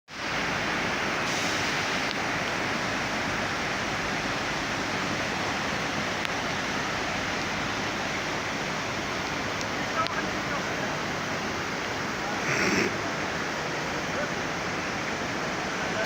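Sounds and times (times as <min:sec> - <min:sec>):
floodwater rushing: 0:00.1 - 0:16.0.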